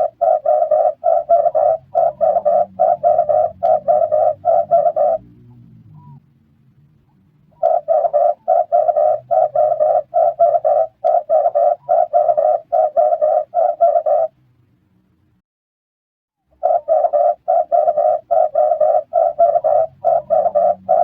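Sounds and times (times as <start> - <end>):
dove cooing: 0.0 - 6.2, 7.5 - 14.4, 16.6 - 21.0.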